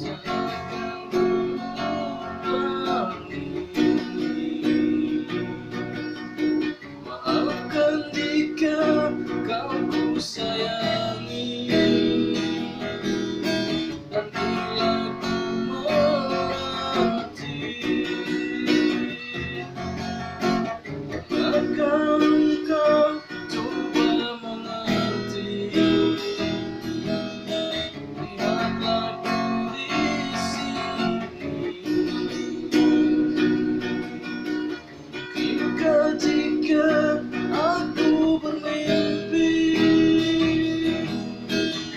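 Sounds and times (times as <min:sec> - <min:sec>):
acoustic guitar playing: 0:00.0 - 0:41.9.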